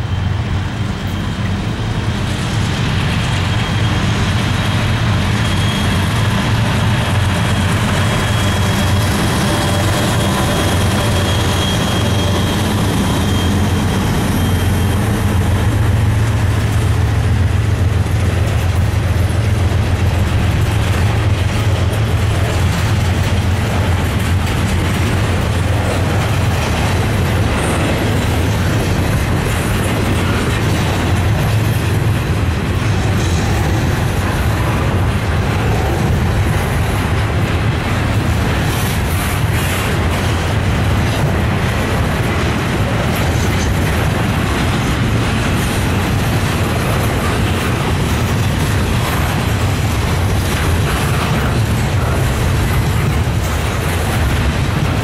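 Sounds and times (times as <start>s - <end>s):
locomotive high whine: 0.0s - 55.0s
train wheels rumbling on rail: 0.0s - 55.0s.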